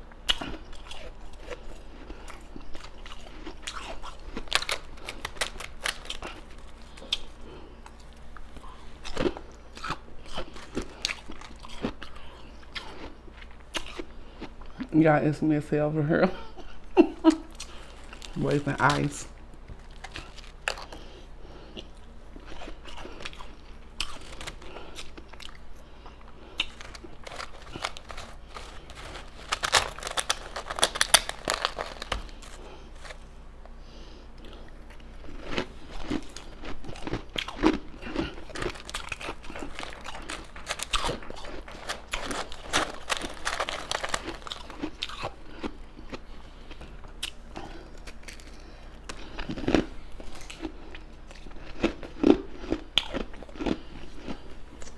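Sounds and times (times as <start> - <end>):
chewing ice: 0.0 - 14.8, 16.6 - 33.8, 34.4 - 54.9.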